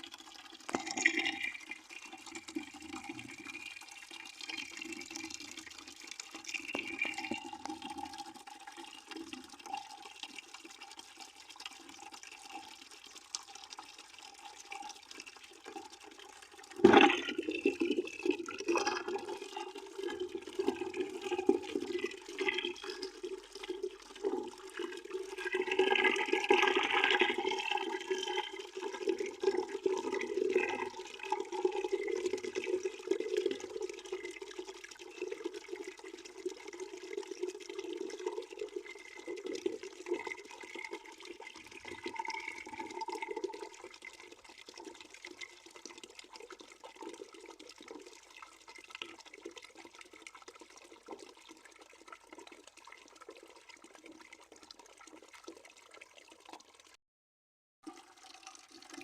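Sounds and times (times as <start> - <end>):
water running into a bucket: 0.0 - 57.0, 57.8 - 59.0.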